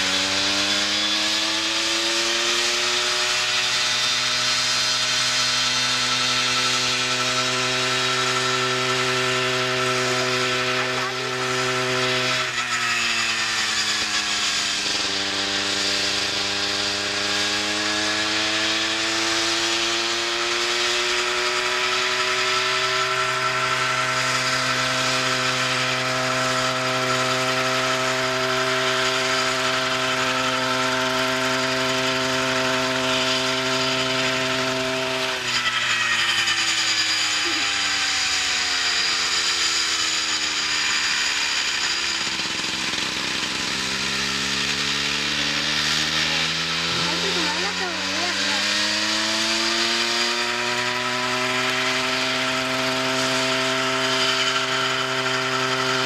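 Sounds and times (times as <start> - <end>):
model helicopter engine running: 0.0 - 56.0.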